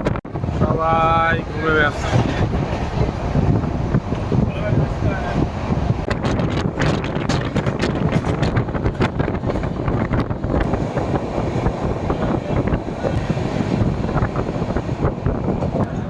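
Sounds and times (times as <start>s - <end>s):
train clatter and rattling: 0.0s - 16.0s
train wheels rumbling on rails: 0.0s - 16.0s.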